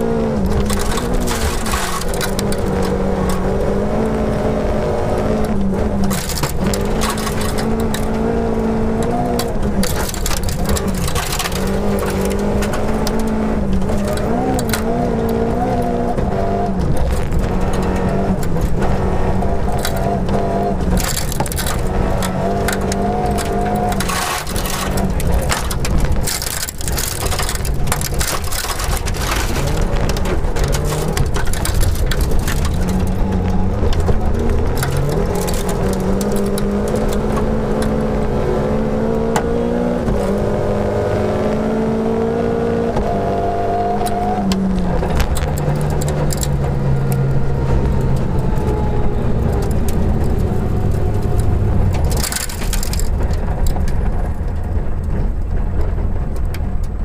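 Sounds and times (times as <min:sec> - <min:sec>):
gravel rattling against car underside: 0:00.0 - 0:40.9, 0:42.8 - 0:57.0
car engine revving hard: 0:00.0 - 0:53.3.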